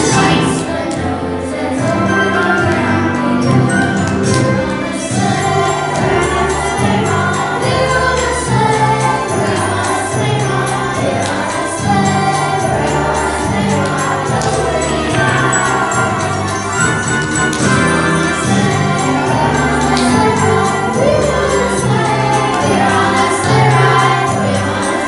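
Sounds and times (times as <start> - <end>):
choir singing: 0.0 - 25.0
sleigh bells ringing: 1.6 - 25.0.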